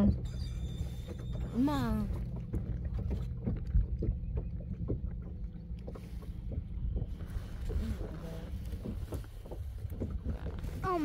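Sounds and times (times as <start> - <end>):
wind and water against hull: 0.0 - 11.0.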